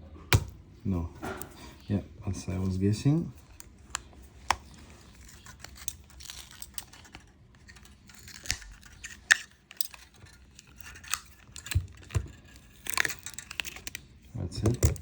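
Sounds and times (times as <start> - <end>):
battery being pried out: 2.5 - 15.0.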